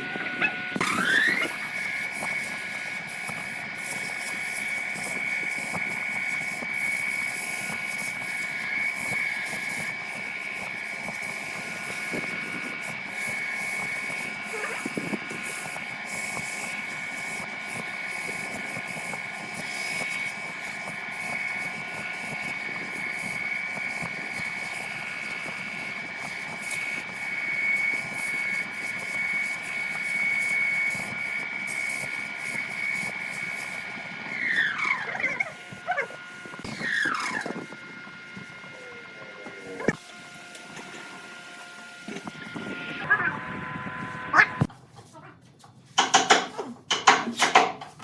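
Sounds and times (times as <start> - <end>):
power tool motor whining: 0.0 - 44.7.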